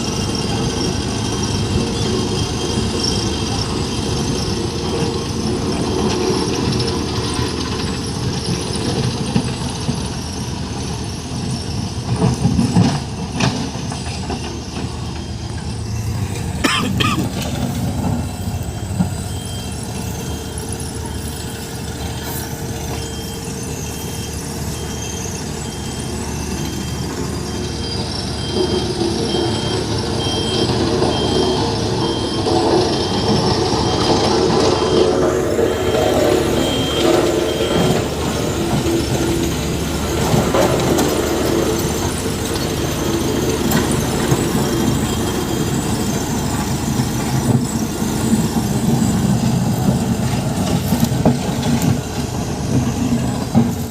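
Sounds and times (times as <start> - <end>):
diesel engine running: 0.0 - 53.9
reversing alarm beeping: 0.0 - 53.9.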